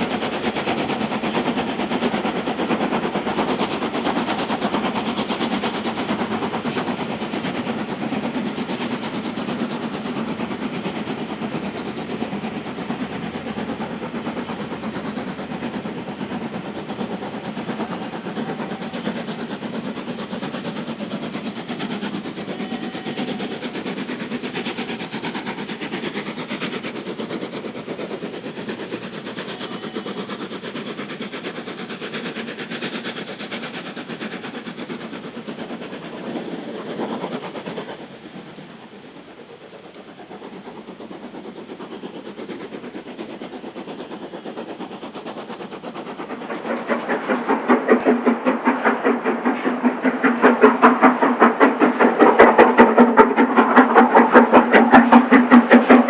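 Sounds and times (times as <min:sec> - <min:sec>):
steam locomotive exhaust beat: 0:00.0 - 0:56.0.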